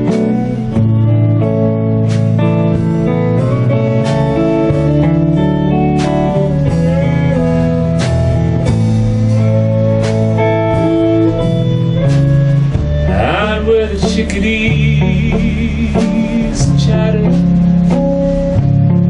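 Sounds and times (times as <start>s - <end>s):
drums steady beat: 0.0s - 19.0s
live rock band playing: 0.0s - 19.0s
note sliding upward: 0.0s - 19.0s.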